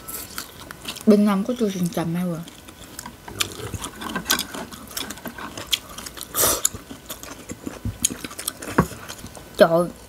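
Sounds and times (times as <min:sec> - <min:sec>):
crunchy chewing: 0:00.0 - 0:09.6.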